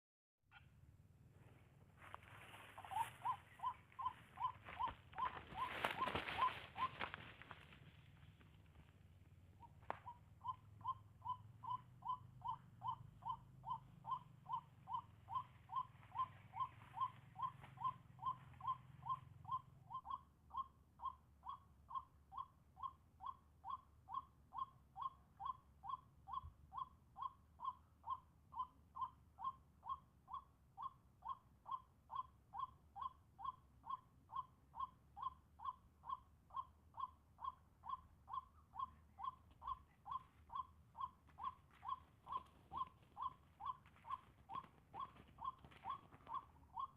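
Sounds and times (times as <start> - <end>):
waterhen hooting call: 2.7 - 7.5, 9.6 - 46.9.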